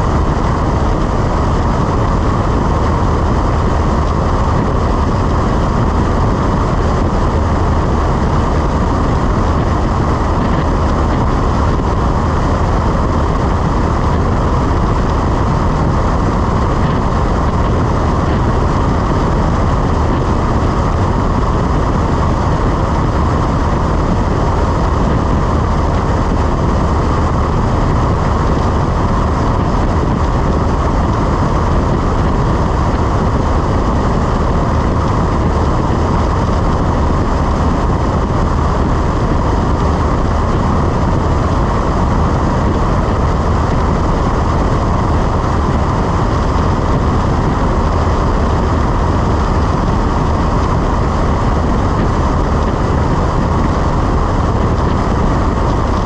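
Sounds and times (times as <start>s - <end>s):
airplane engine and propeller drone: 0.0s - 56.0s
rush of air: 0.0s - 56.0s.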